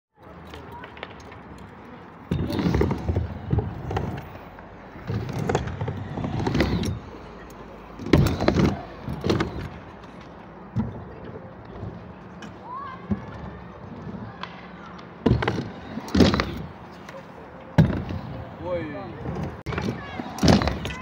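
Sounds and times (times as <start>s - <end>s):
scooter wheels rolling on ramps: 0.2s - 21.0s.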